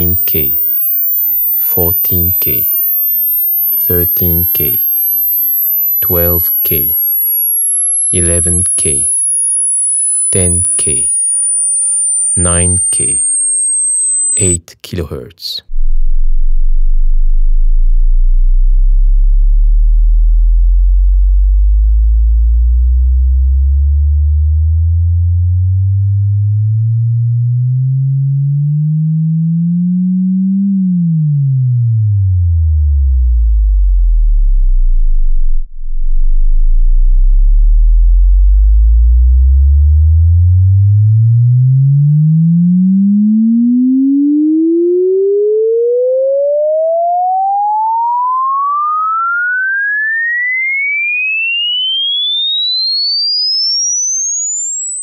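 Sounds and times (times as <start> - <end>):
sine test tone sweeping: 0.0 - 14.6, 15.7 - 55.0.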